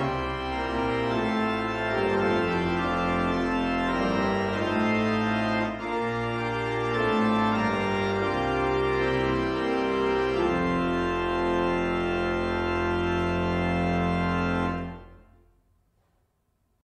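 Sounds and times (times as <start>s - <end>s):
organ chords: 0.0s - 15.6s.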